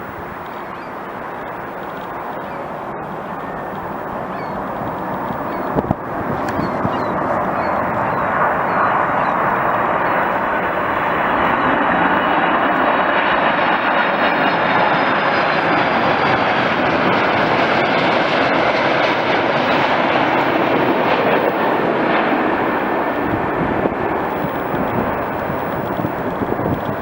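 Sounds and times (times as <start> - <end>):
aircraft engines rushing: 0.0 - 27.0.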